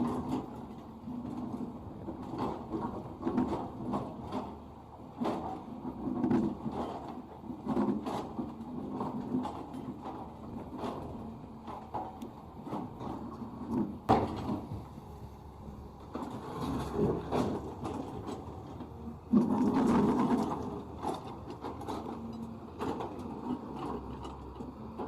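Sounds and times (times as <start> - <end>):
excavator engine under load: 0.0 - 25.0.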